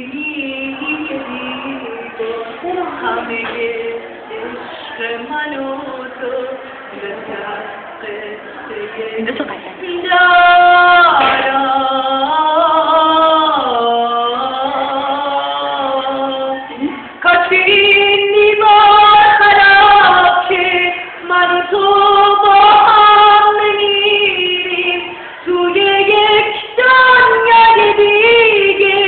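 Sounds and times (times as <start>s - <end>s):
woman singing slow melody: 0.0s - 29.0s.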